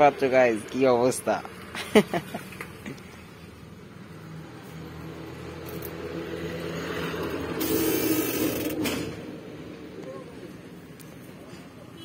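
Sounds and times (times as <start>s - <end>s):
vehicle engine approaching: 1.4s - 11.8s.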